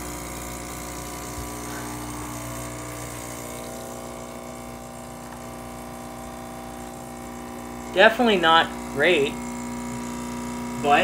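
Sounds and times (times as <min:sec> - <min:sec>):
espresso machine pump buzzing: 0:00.0 - 0:11.0.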